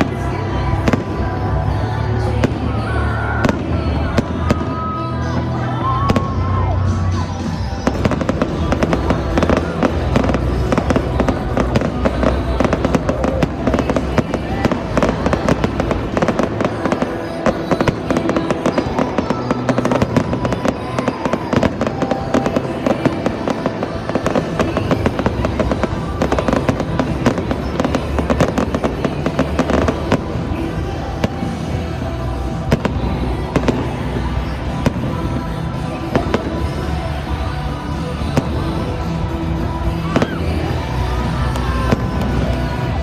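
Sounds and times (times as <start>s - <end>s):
fireworks bangs and crackles: 0.0s - 43.0s
music playing: 0.0s - 43.0s.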